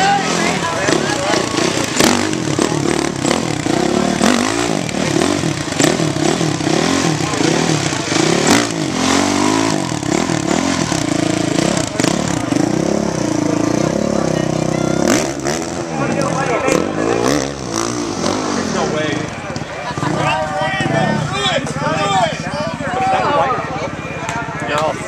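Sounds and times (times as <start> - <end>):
dirt bike engine revving: 0.0 - 23.6.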